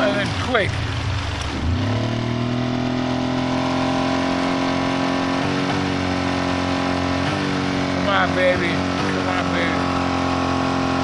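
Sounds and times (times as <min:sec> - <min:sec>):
outboard boat motor revving: 0:00.0 - 0:11.0.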